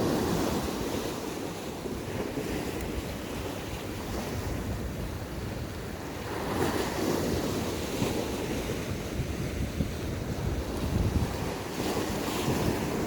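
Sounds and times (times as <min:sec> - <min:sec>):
sea waves washing against rocks: 0:00.0 - 0:13.0
wind buffeting microphone: 0:00.0 - 0:13.0.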